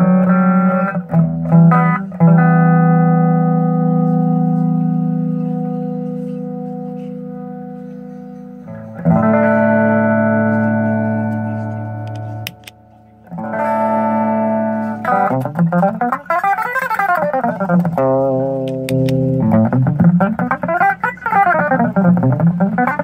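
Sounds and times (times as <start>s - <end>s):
electric guitar chords and notes: 0.0s - 23.0s.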